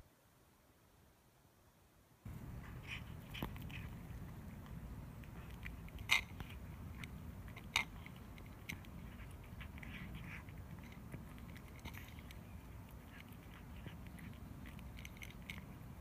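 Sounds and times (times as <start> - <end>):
cat chewing and crunching food: 2.3 - 16.0.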